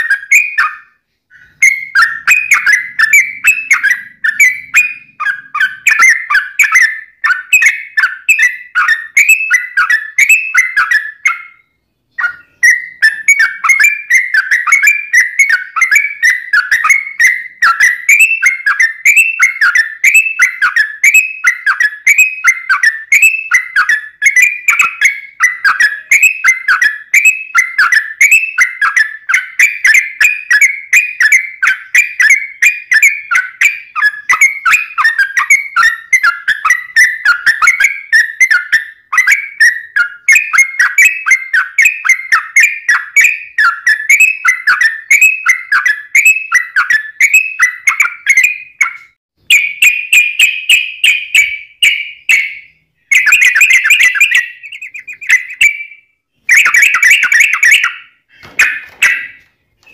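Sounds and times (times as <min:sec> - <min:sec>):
bird singing bubbly whistled phrases: 0:00.0 - 0:59.9.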